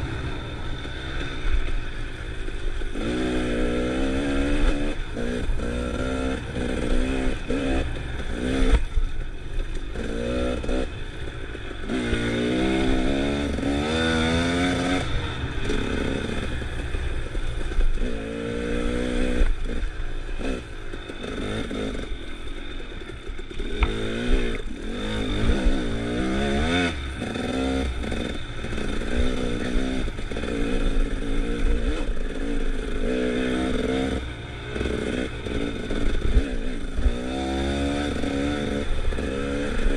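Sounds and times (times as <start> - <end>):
dirt bike engine revving: 0.0 - 39.9
low rumble of wind: 0.0 - 39.9.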